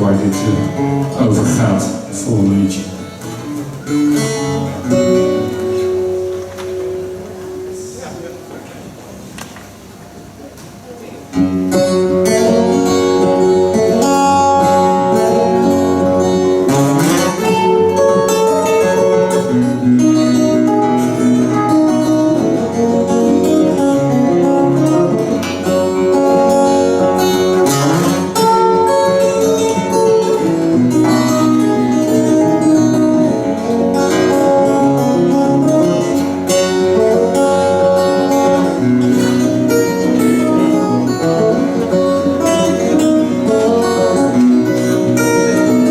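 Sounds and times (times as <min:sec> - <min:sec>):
guitars playing plucked tune: 0:00.0 - 0:45.9.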